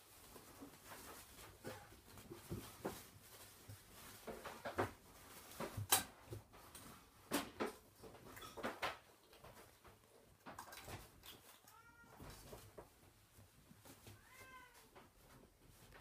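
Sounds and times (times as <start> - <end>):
kittens scuffling in play: 0.0 - 16.0.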